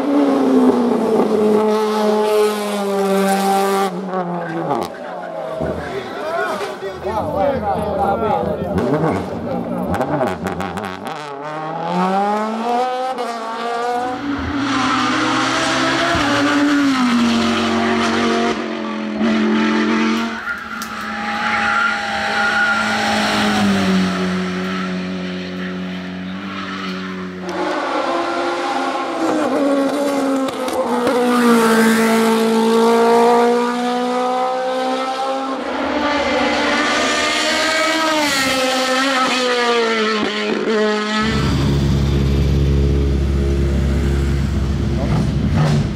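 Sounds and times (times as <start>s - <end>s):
race car engines at full throttle: 0.0s - 45.9s.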